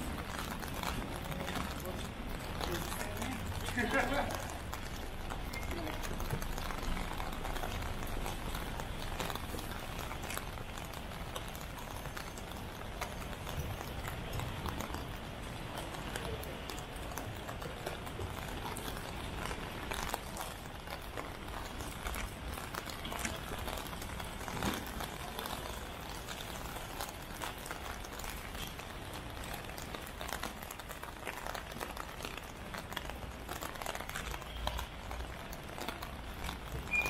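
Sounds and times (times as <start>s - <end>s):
rain on a street: 0.0s - 37.0s.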